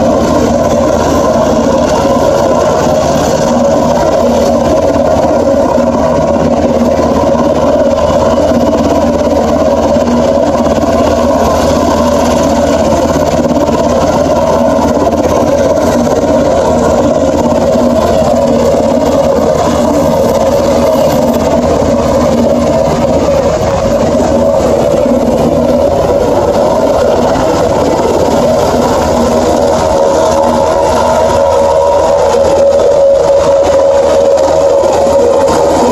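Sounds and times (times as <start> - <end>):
helicopter turbine and rotor: 0.0 - 35.9.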